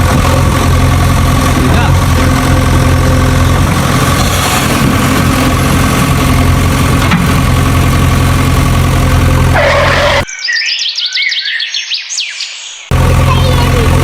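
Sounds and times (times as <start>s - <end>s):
vehicle engine droning: 0.0s - 10.3s, 12.9s - 14.0s.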